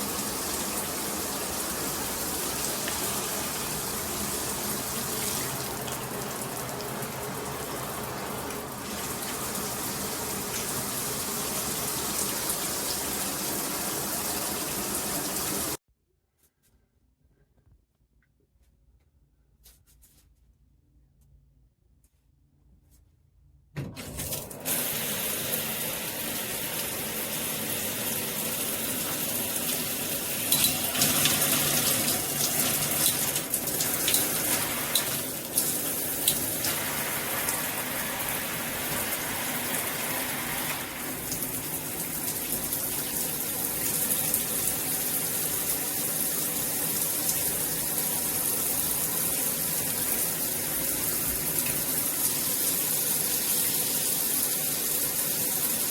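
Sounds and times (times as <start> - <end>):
shower water spraying and splashing: 0.0 - 15.8, 24.0 - 55.9.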